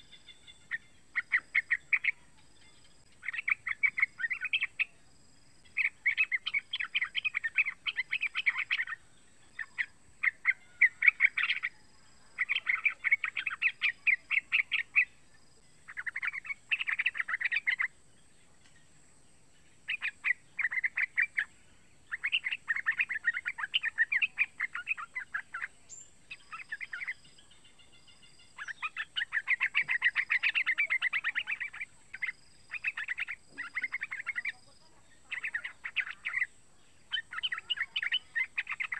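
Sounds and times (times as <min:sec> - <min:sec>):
young bird chattering: 0:00.0 - 0:05.0, 0:05.6 - 0:18.0, 0:19.8 - 0:38.9.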